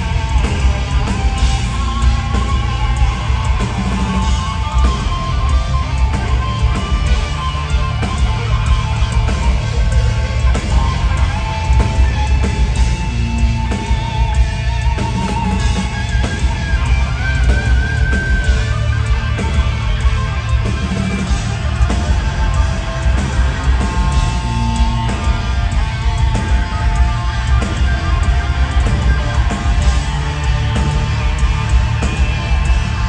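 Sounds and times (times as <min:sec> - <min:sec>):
heavy metal band playing live: 0:00.0 - 0:33.0.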